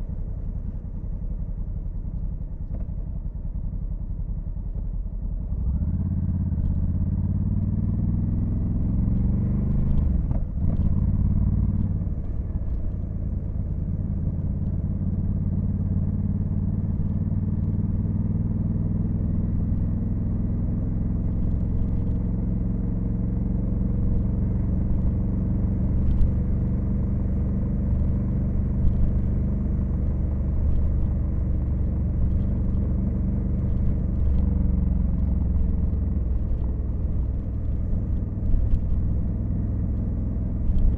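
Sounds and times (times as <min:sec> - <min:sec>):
motorcycle engine accelerating: 0:05.4 - 0:40.9.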